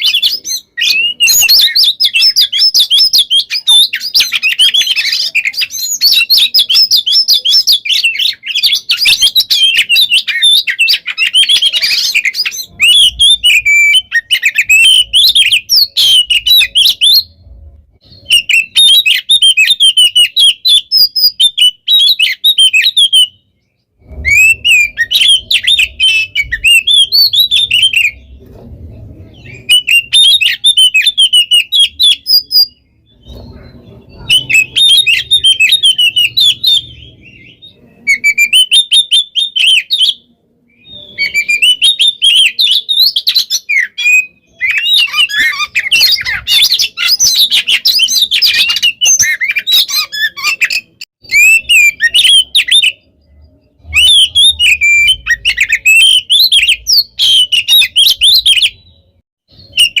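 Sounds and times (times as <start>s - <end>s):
songbird singing: 0.0s - 60.0s.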